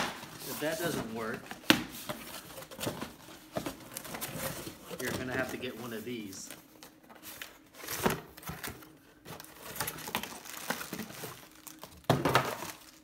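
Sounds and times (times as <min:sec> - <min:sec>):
cardboard box rustling: 0:00.1 - 0:13.0.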